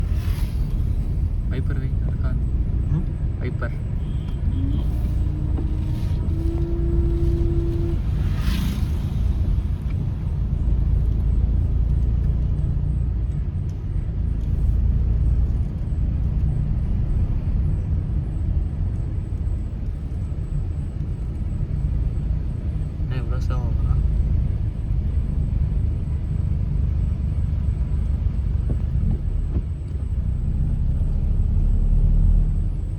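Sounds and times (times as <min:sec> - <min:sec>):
bus diesel engine droning: 0:00.0 - 0:32.9.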